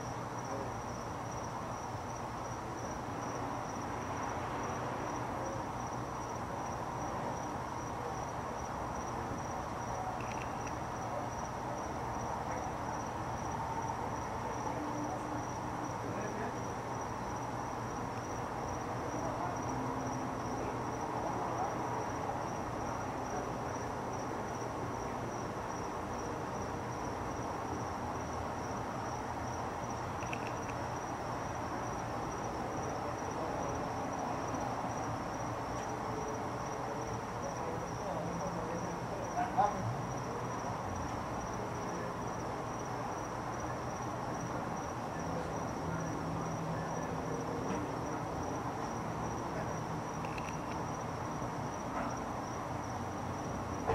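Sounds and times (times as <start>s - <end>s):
cricket chirping: 0.0s - 53.9s.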